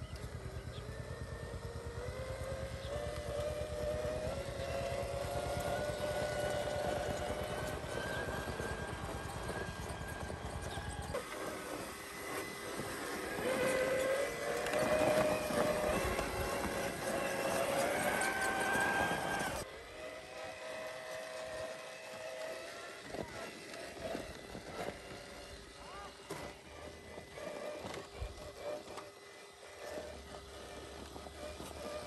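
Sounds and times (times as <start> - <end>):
electric motor and gears whining: 0.0 - 32.0.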